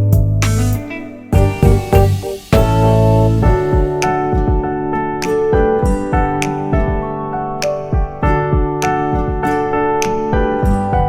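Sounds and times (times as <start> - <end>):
soft kick drum and percussion: 0.0 - 0.8, 1.4 - 7.1, 7.9 - 9.6, 10.3 - 11.0
keyboard chords: 0.0 - 11.0.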